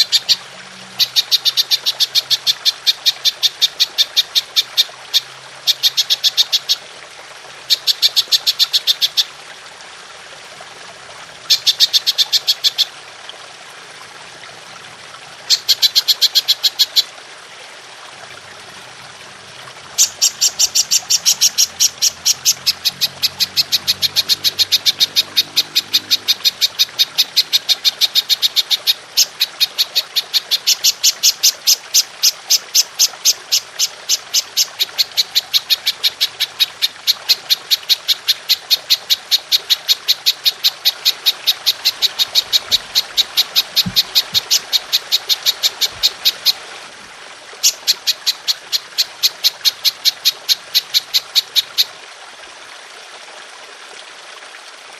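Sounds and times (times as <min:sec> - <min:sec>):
water trickling: 0:00.0 - 0:54.9.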